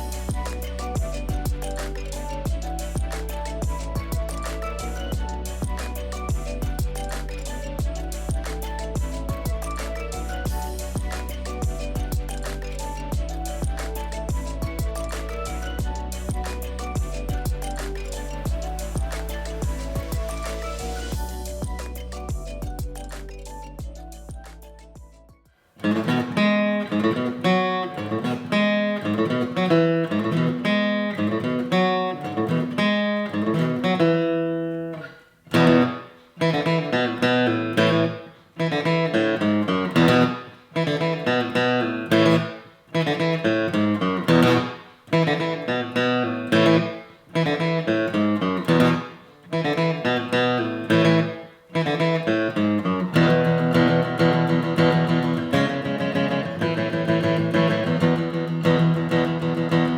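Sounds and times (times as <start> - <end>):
plucked guitar music: 0.0 - 59.9.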